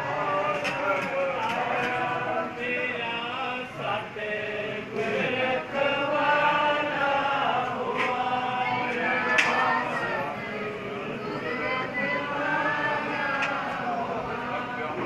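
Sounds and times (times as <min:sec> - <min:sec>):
congregation chanting in unison: 0:00.0 - 0:15.0.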